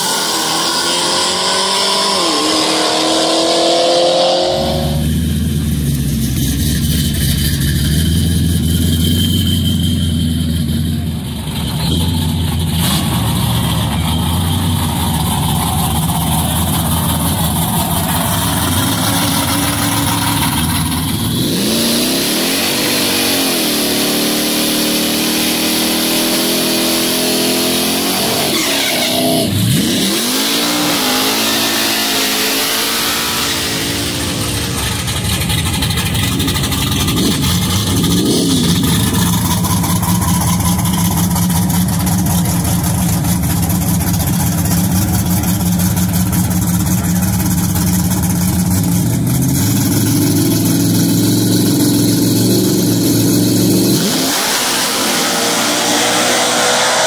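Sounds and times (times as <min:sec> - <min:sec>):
truck engines revving and idling: 0:00.0 - 0:57.0.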